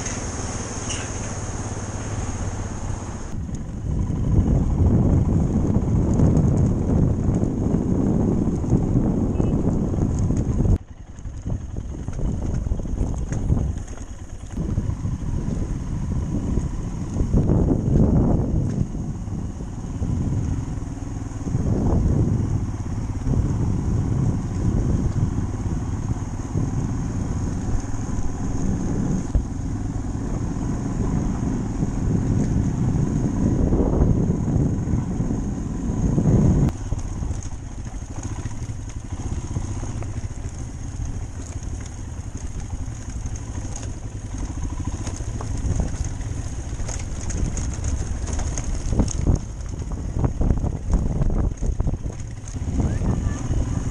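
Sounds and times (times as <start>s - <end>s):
motorcycle rumbling on dirt track: 0.0s - 53.9s.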